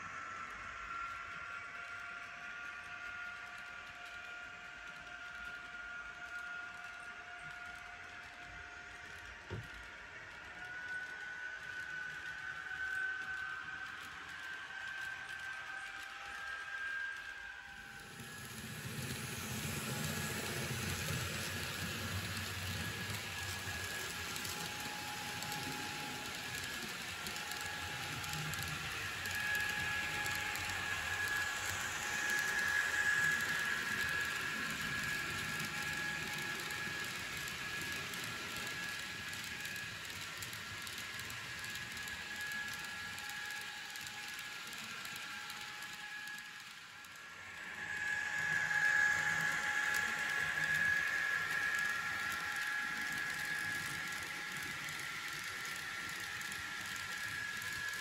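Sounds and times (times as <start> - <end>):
electric locomotive tone: 0.0 - 58.0.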